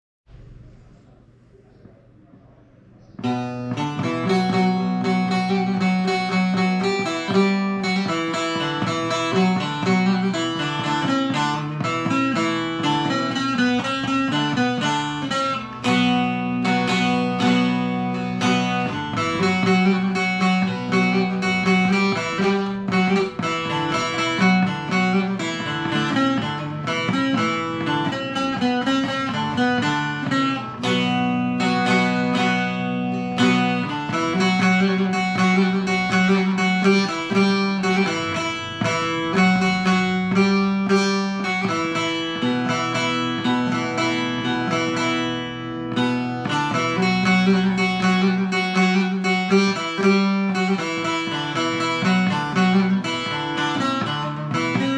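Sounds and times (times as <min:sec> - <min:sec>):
plucked saz folk melody: 0:03.2 - 0:54.9.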